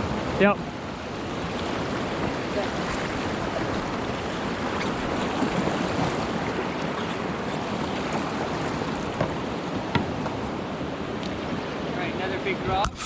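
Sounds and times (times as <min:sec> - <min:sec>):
river rapids rushing: 0:00.0 - 0:12.7.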